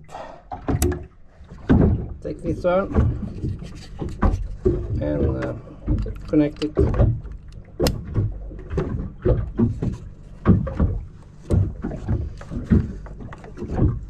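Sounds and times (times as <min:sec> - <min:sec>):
low rumble: 0:00.0 - 0:14.0
plastic handling clicks and knocks: 0:00.5 - 0:14.0.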